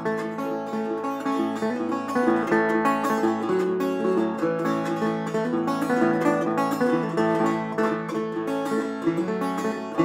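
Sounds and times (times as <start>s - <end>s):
resonator guitar picking: 0.0s - 10.0s.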